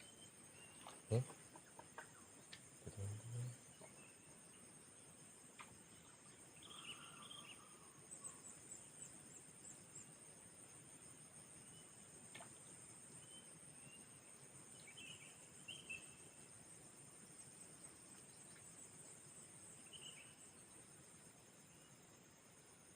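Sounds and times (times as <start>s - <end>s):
insects chirping: 0.0s - 22.9s.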